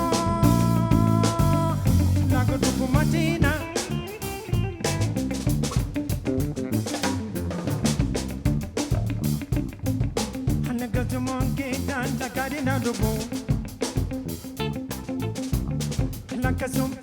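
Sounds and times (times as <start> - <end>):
bass line: 0.0 - 17.0
drum kit: 0.0 - 17.0
electric guitar bending notes: 0.0 - 17.0.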